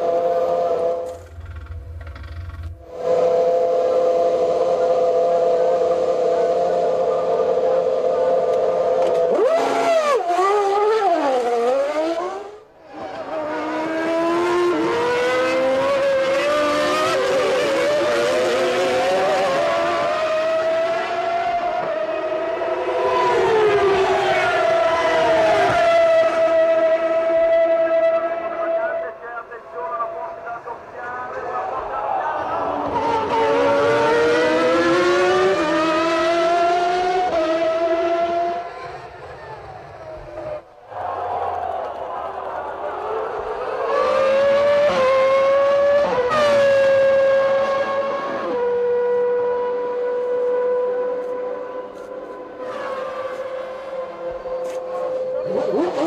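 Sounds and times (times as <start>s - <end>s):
racing car engine at high revs: 0.0s - 41.0s, 42.7s - 56.0s.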